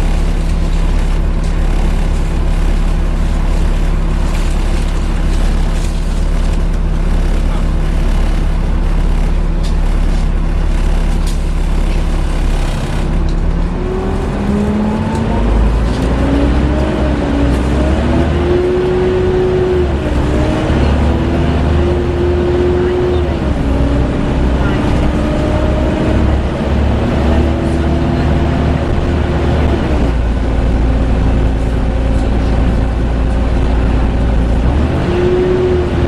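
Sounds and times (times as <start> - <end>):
bus cooling fan drone: 0.0 - 36.0
bus engine hum: 0.0 - 36.0.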